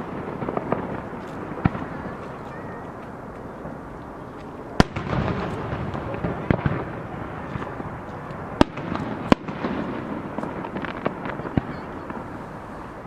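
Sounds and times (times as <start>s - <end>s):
firework rumble: 0.0s - 13.0s.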